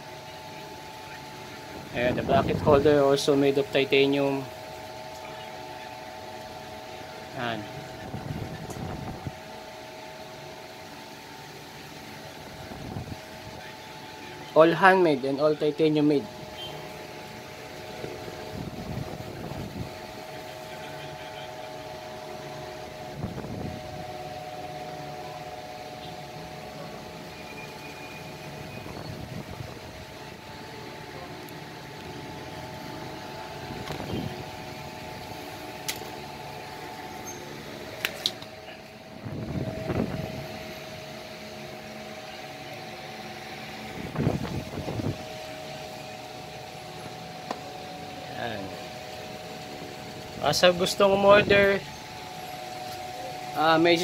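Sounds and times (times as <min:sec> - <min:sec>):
mechanical room hum: 0:00.0 - 0:54.0.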